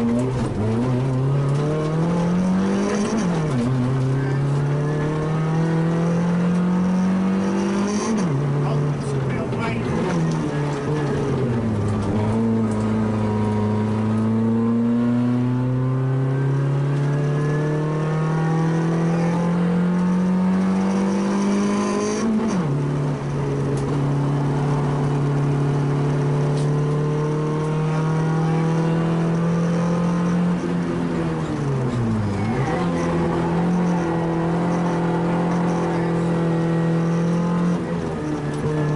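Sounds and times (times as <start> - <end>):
rally car engine under load: 0.0 - 38.9.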